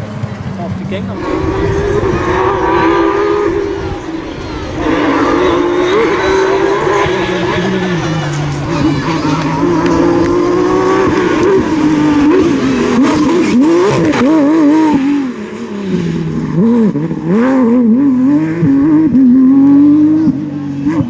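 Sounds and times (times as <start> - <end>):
engine throttle blips: 0.0 - 21.0
rally car engine accelerating: 0.0 - 21.0.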